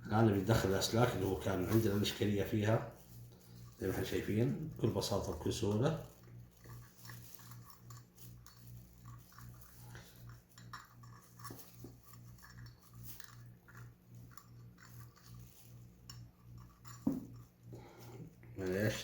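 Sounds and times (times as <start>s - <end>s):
wiring and plastic parts rustling: 0.0s - 19.0s.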